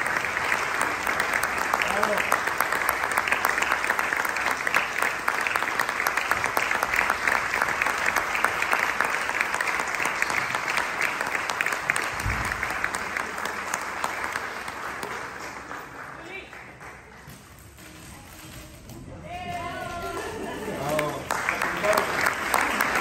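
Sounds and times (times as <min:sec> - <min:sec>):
audience applauding: 0:00.0 - 0:17.3, 0:19.6 - 0:23.0.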